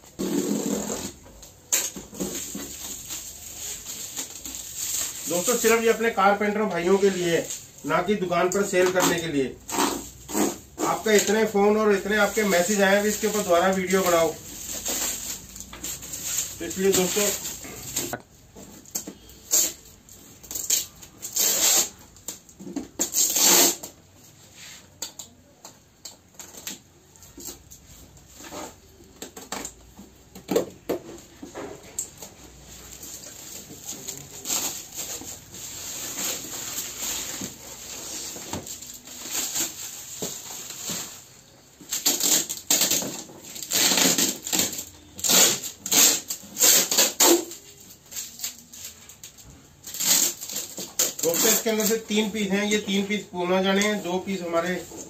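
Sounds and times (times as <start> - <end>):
packaging rustling and scraping: 0.0 - 55.0.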